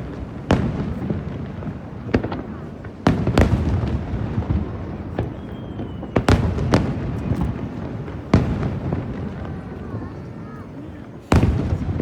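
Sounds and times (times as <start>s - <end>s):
firework booms: 0.0s - 10.4s, 11.1s - 12.0s
low rumble of explosions: 0.0s - 12.0s.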